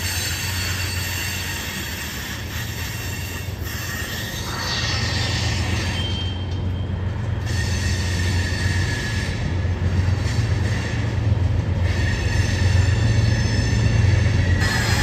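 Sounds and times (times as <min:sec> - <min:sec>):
high wheel squeal: 0:00.0 - 0:11.1, 0:11.8 - 0:15.0
freight train rumbling past: 0:00.0 - 0:15.0.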